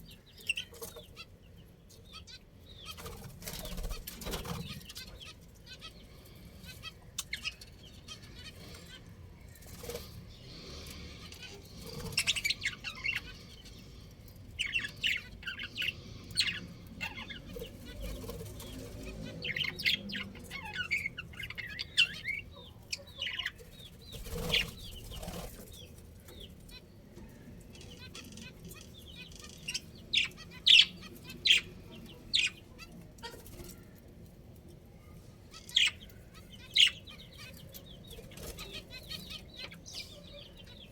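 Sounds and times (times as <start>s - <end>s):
budgerigars chirping: 0.0s - 9.1s, 9.7s - 26.9s, 27.7s - 33.9s, 35.5s - 40.9s.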